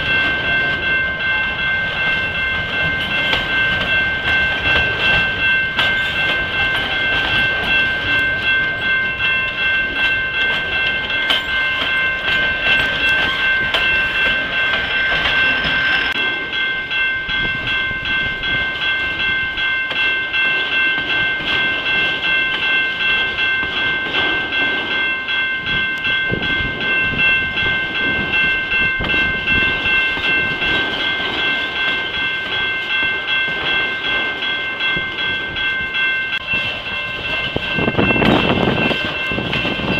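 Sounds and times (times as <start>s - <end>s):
train cars clickety-clack: 0.0s - 39.9s.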